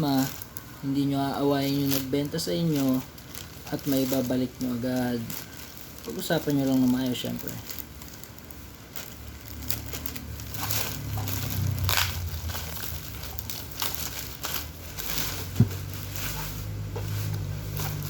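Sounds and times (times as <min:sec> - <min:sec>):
low steady hum: 0:00.0 - 0:18.0
plastic packaging crinkling: 0:00.0 - 0:18.0.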